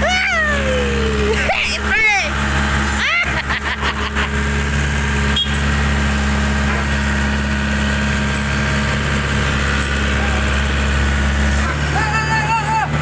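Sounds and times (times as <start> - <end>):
backhoe diesel engine humming: 0.0 - 13.0.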